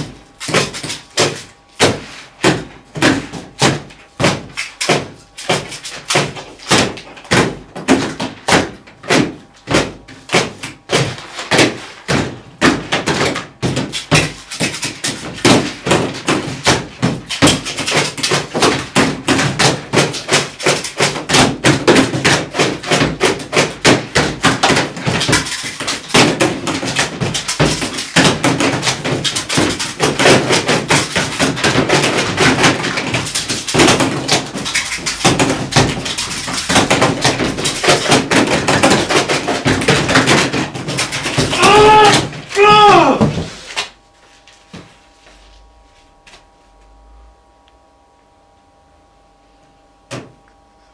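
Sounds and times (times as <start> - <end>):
desk items knocking on tables: 0.0 - 43.6.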